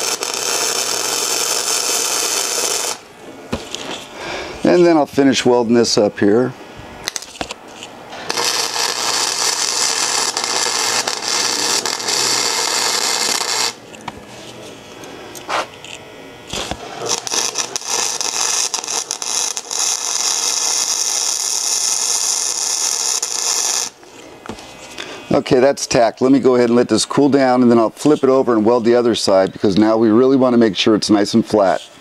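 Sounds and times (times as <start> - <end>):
welding arc crackling: 0.0 - 5.6, 7.0 - 29.0.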